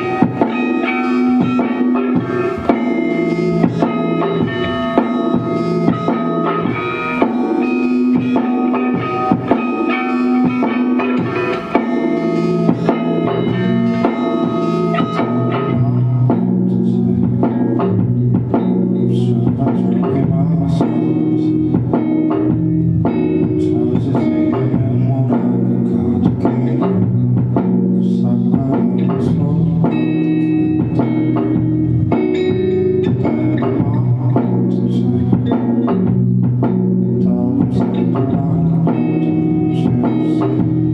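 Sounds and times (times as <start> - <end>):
bass guitar: 0.0 - 40.9
drum kit steady beat: 0.0 - 40.9
electric guitar chords: 0.0 - 40.9.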